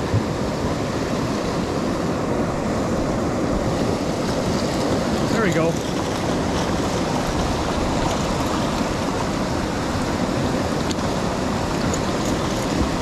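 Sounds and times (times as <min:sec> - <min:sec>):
water rushing over a spillway: 0:00.0 - 0:13.0.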